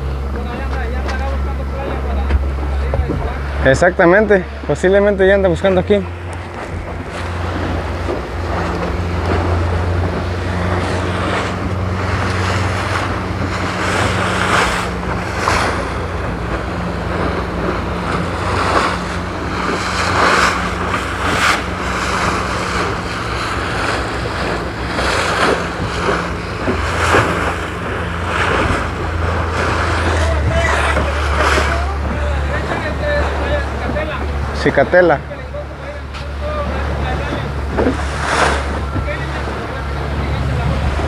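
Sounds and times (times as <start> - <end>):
motorboat engine running: 0.0 - 41.0
rushing water: 0.0 - 41.0
wind buffeting microphone: 0.0 - 41.0.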